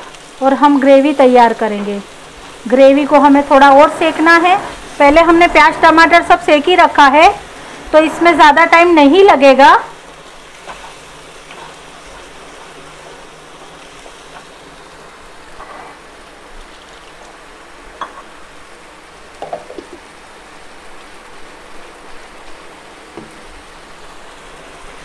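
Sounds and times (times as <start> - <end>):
masala paste sizzling in oil: 0.0 - 25.0.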